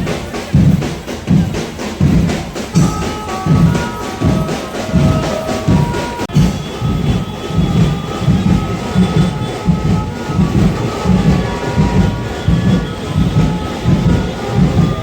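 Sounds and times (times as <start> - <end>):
heavy drums pounding: 0.0 - 15.0
melody of held notes: 2.7 - 15.0.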